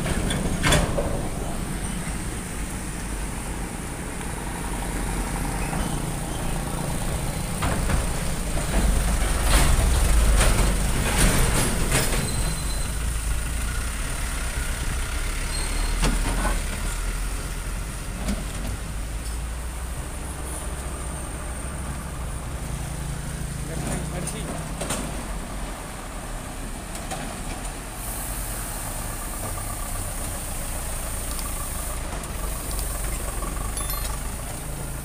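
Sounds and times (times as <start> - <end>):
trucks passing: 0.0 - 35.0.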